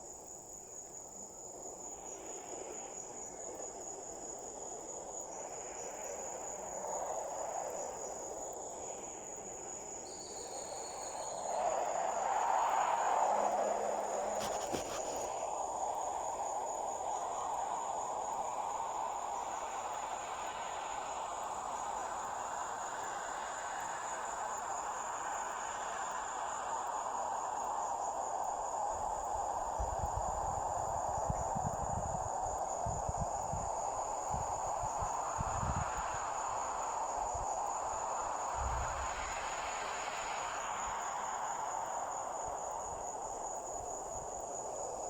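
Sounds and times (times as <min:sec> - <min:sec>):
crickets chirping: 0:00.0 - 0:45.0
steady hiss: 0:00.0 - 0:45.0.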